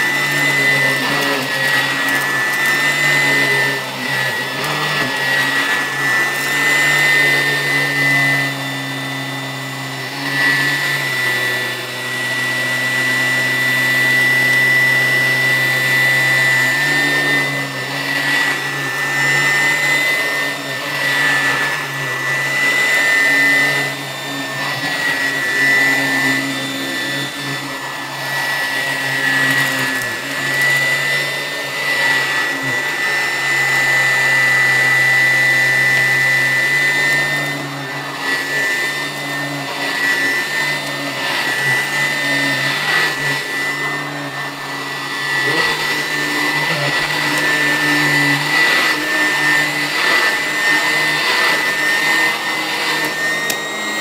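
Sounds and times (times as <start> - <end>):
vacuum cleaner running over carpet: 0.0 - 54.0.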